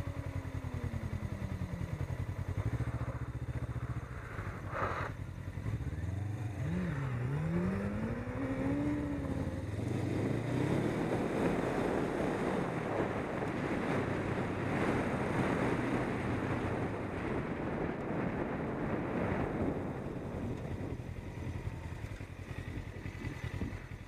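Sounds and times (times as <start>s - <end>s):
motorcycle engine running: 0.0s - 24.0s
wind rushing over microphone: 2.5s - 23.9s.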